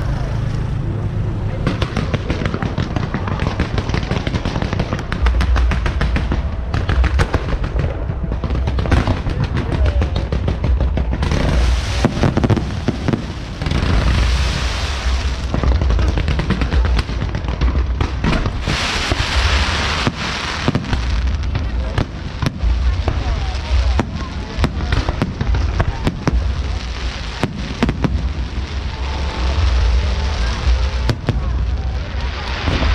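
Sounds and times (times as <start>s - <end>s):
low rumble of fireworks booms: 1.3s - 32.9s
firecrackers crackling: 1.4s - 32.9s.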